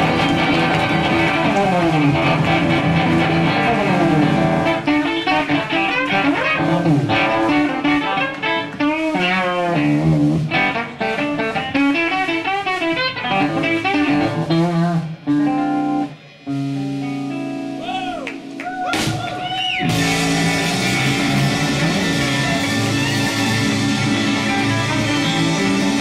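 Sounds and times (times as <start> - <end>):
fast electric guitar lead: 0.0 - 26.0
surf rock band playing: 0.0 - 26.0.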